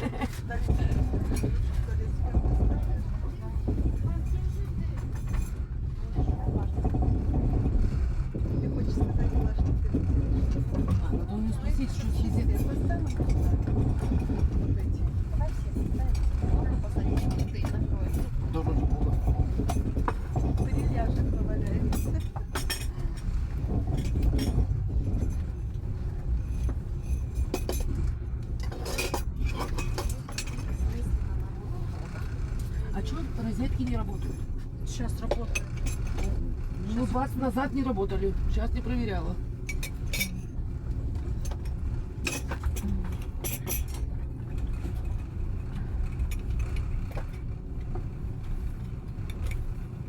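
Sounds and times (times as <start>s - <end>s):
train rumble inside carriage: 0.0s - 50.0s
light clinks and rattles: 0.1s - 39.0s, 39.6s - 50.0s.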